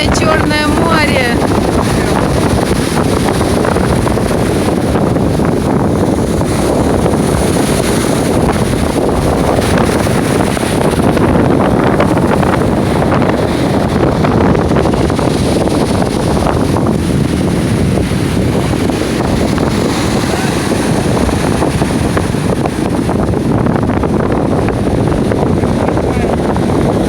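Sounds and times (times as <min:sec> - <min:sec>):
heavy surf: 0:00.0 - 0:27.0
storm wind on microphone: 0:00.0 - 0:27.0.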